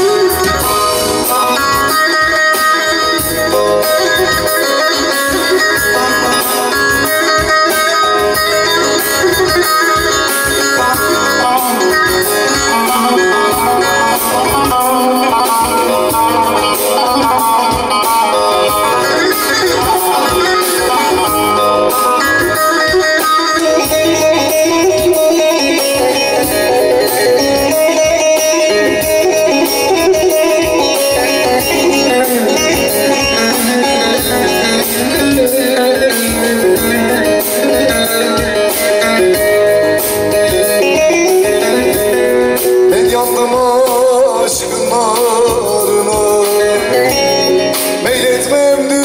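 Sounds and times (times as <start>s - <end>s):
electric lute folk tune: 0.0s - 49.0s.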